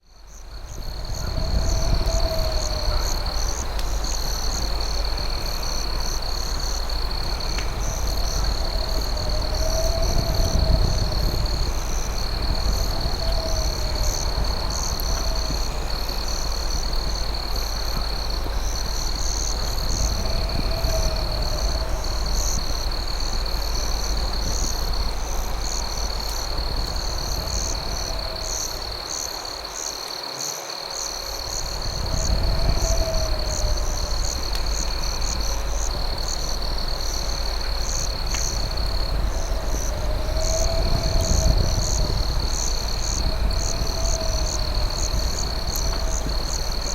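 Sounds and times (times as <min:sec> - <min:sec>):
cricket trill: 0:00.0 - 0:46.9
rapid pulsing insect chirps: 0:00.0 - 0:46.9
steady low rumble: 0:00.2 - 0:29.5, 0:31.2 - 0:46.9.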